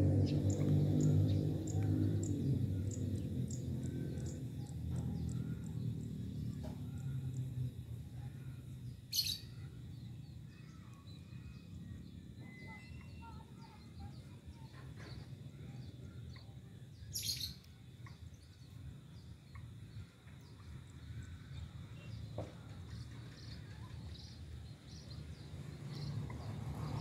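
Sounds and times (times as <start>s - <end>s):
low background rumble: 0.0s - 27.0s
small birds chirping: 0.0s - 27.0s.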